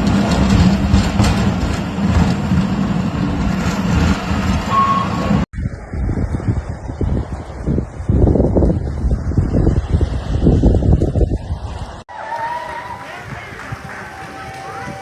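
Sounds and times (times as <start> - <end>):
vehicle engine running: 0.0 - 12.0
dull outdoor rumble: 0.0 - 15.0.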